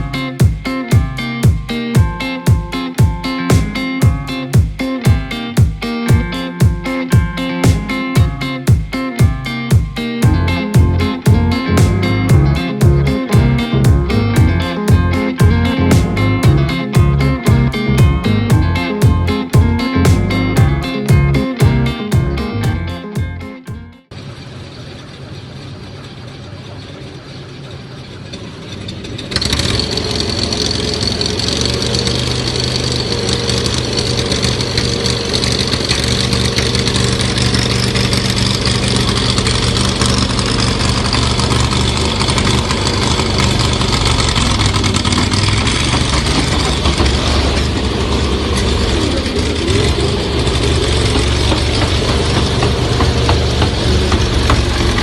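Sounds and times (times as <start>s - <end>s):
vehicle engine running: 9.2s - 55.0s.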